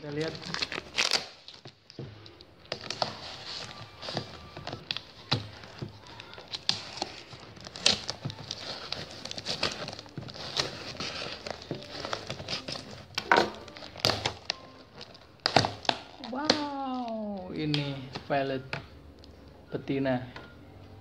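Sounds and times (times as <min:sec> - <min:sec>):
tape being peeled back: 0:00.1 - 0:18.4.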